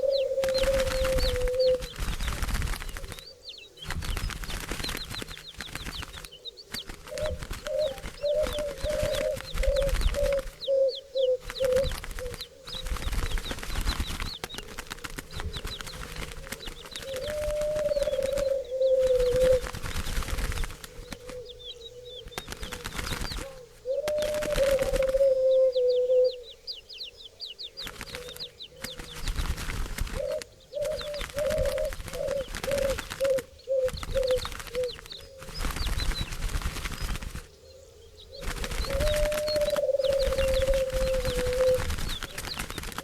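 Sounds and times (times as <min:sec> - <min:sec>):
low cooing bird calls: 0:00.0 - 0:43.0.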